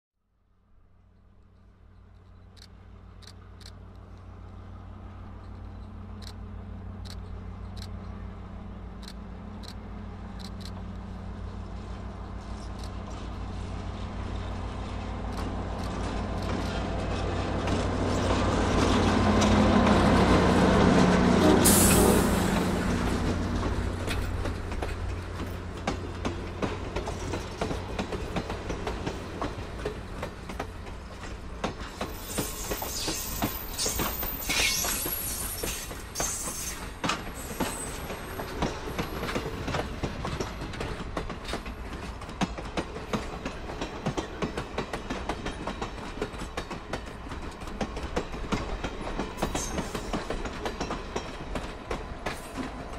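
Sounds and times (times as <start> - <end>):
diesel locomotive engine drone: 0.4 - 52.9
train wheels clattering on rails: 8.9 - 52.9.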